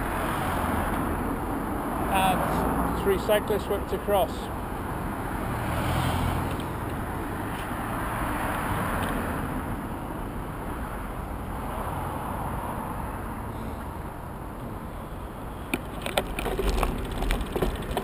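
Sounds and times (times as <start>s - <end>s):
cars passing close by: 0.0s - 18.0s
low rumble of road traffic: 0.0s - 18.0s.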